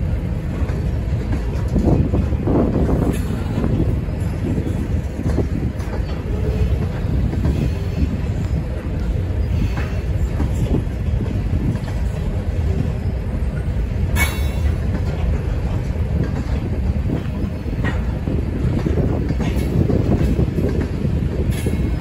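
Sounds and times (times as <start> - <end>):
train cars clanking: 0.0 - 22.0
train wheels rumbling on rail: 0.0 - 22.0.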